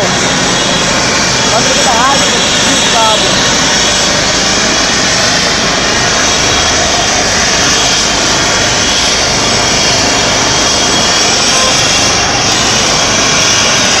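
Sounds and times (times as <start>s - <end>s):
helicopter turbine and rotor running: 0.0s - 14.0s.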